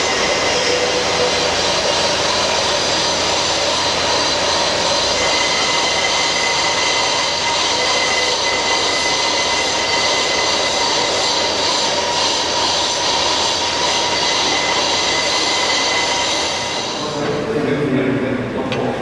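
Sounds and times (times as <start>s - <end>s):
lathe high whine: 0.0s - 18.6s.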